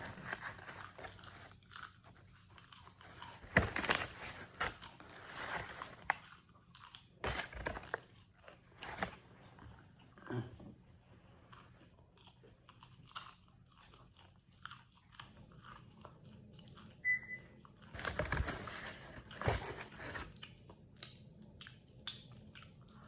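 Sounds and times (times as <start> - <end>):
popcorn being chewed: 0.0 - 23.0.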